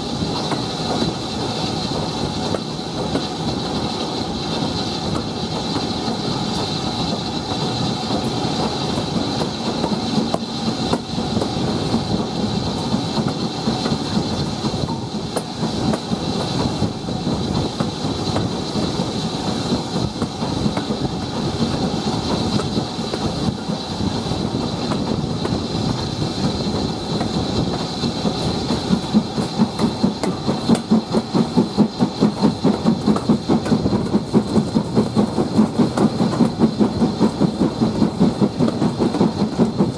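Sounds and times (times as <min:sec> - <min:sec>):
steam locomotive exhaust beats: 0:00.0 - 0:39.9
wheels clattering on rails: 0:00.0 - 0:39.9.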